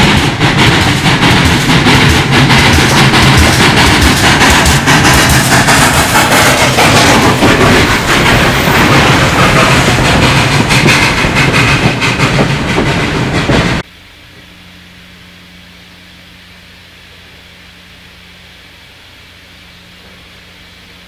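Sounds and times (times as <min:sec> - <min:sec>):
steam locomotive exhaust blast: 0:00.0 - 0:21.0.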